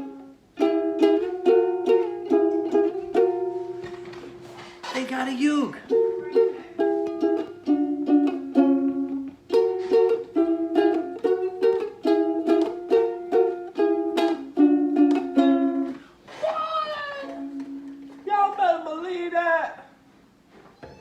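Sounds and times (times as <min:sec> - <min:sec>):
ukulele strumming: 0:00.0 - 0:19.7.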